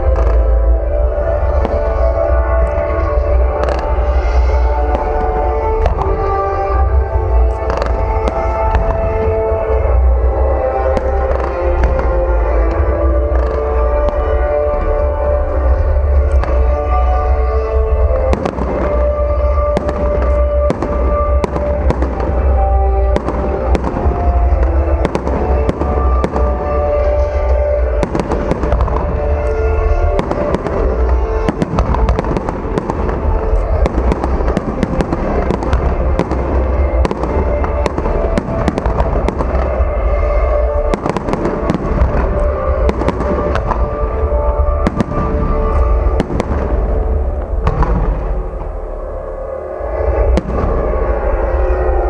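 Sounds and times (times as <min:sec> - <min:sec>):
fireworks bursting: 0:00.0 - 0:52.0
music playing: 0:00.0 - 0:52.0.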